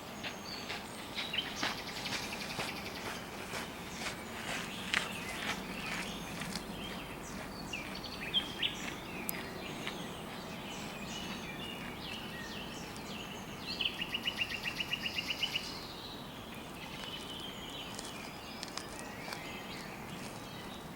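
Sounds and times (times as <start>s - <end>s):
birds chirping and calling: 0.1s - 20.9s.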